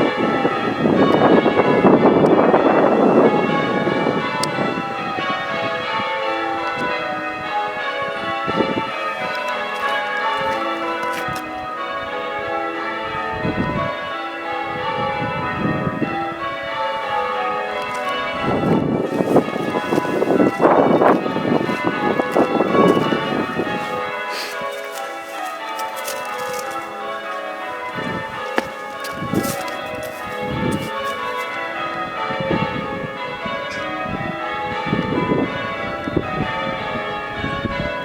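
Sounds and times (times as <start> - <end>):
church bells change ringing: 0.0 - 38.0.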